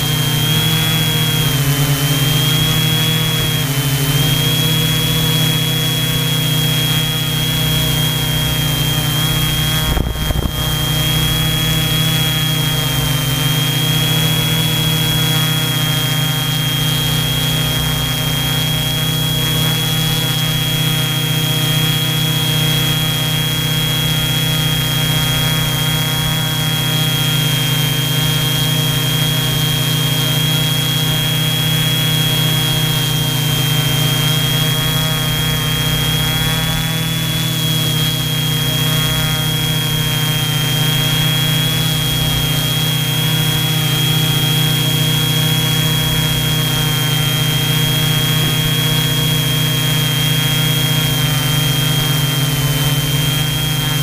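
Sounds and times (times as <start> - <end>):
drone motors droning: 0.0 - 54.0
thin high motor whine: 0.0 - 54.0.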